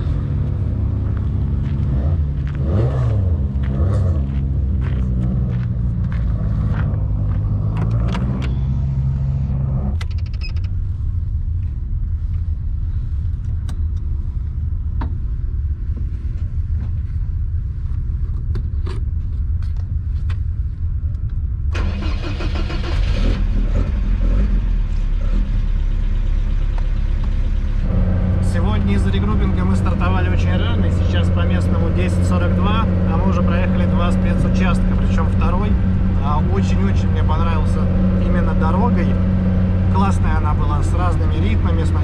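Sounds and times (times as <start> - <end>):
car engine running: 0.0 - 21.2, 21.8 - 42.0.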